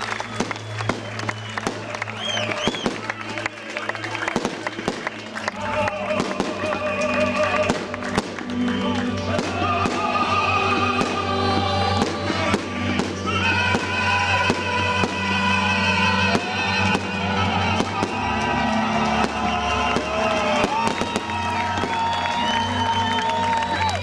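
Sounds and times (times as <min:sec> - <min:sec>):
fireworks bursting: 0:00.0 - 0:03.2, 0:04.0 - 0:05.3, 0:06.1 - 0:23.6
loud music with bass: 0:04.4 - 0:24.0.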